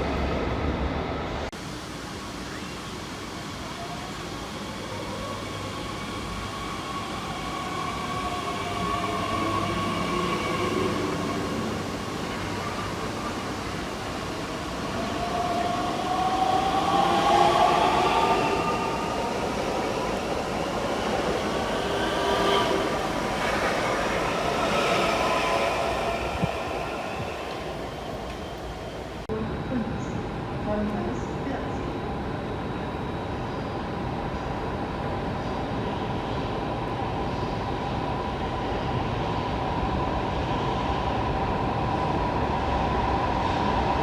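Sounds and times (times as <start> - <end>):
train moving past: 0.0 - 44.0
whine of steady pitches: 1.9 - 39.1.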